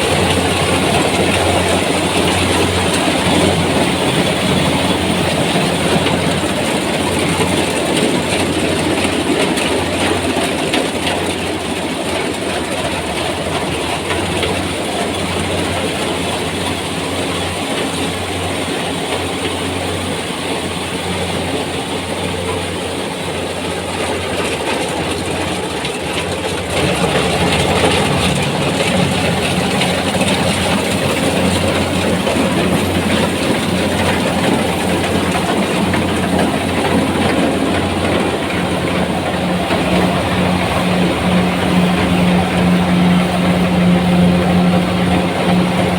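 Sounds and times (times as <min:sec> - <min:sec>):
combine harvester clattering: 0:00.0 - 0:45.9.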